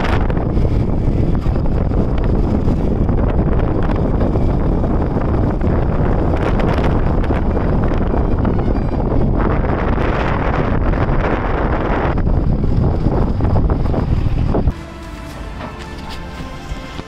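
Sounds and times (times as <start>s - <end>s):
motorcycle engine: 0.0s - 17.0s
tyres on gravel road: 0.0s - 17.0s
wind buffeting microphone: 0.0s - 17.0s.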